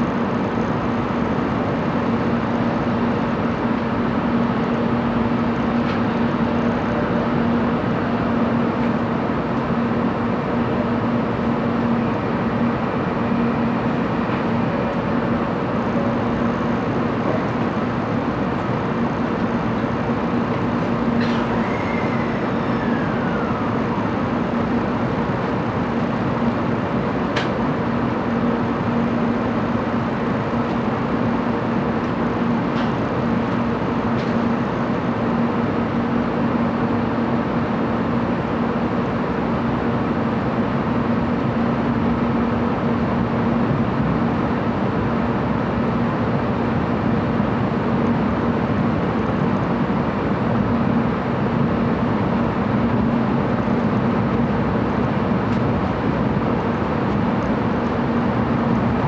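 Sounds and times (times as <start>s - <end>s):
steady low hum: 0.0s - 21.7s, 22.3s - 59.0s.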